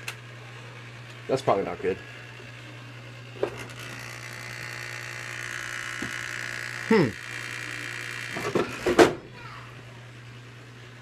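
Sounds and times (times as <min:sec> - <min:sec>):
steady electrical buzz: 0:00.0 - 0:11.0
washing machine whirring and rattling: 0:00.0 - 0:11.0.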